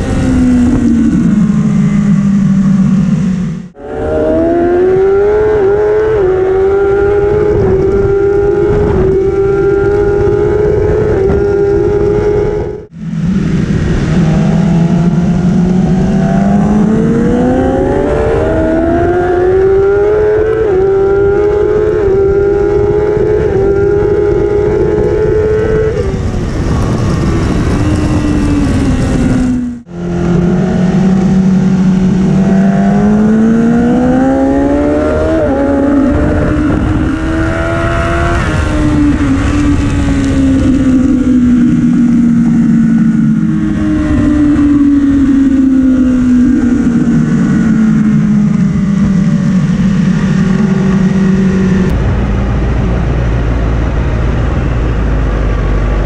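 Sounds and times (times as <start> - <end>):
motorcycle engine at racing speed: 0.0 - 56.0
wind rushing: 0.0 - 56.0.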